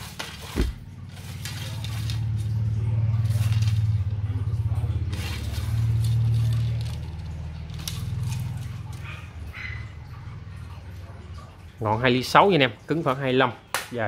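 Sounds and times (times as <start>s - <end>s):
low engine drone: 0.0s - 11.8s.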